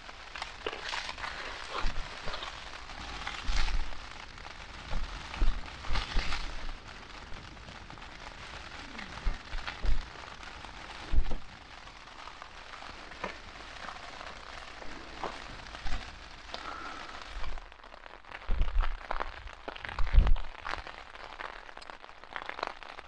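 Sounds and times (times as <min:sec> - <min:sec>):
rain on tent fabric: 0:00.0 - 0:23.0.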